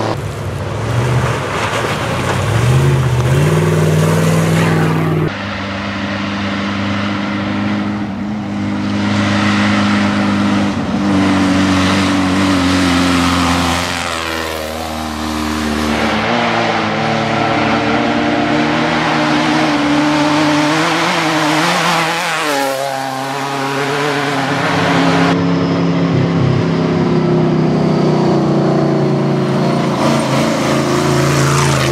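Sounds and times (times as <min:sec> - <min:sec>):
race vehicle engines revving: 0:00.0 - 0:31.9.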